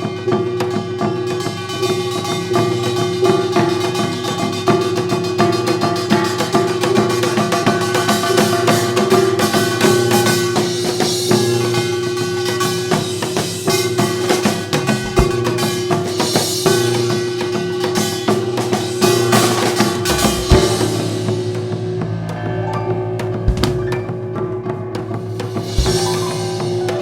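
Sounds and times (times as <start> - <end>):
busy drumming: 0.0 - 22.4, 23.2 - 27.0.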